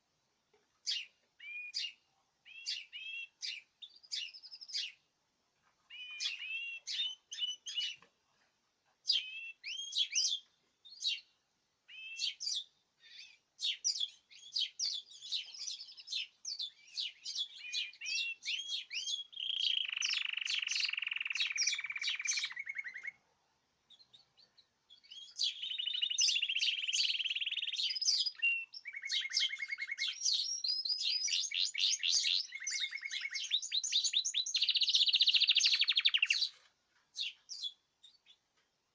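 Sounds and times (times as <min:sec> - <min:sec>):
caged songbirds singing: 0:00.8 - 0:05.1, 0:05.9 - 0:08.1, 0:09.0 - 0:38.9.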